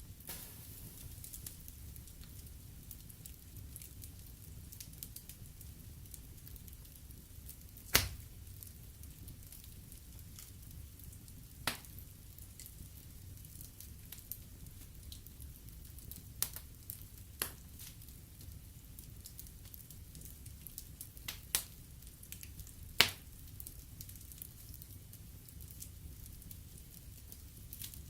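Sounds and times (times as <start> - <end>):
burning logs popping: 0.0 - 28.0
wood fire crackling: 0.0 - 28.0.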